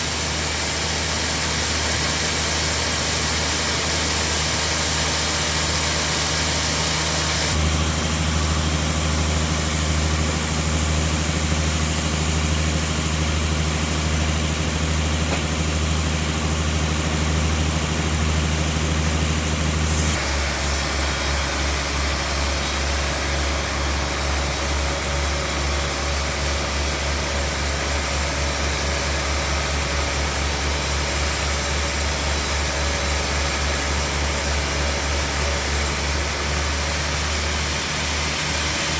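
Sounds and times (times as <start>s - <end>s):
bandsaw machinery drone: 0.0s - 38.9s.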